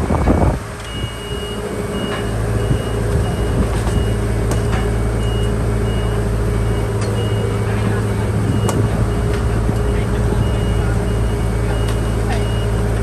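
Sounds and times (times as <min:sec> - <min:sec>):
heavy diesel machine running: 0:00.0 - 0:13.0
reverse alarm beeping: 0:00.9 - 0:13.0.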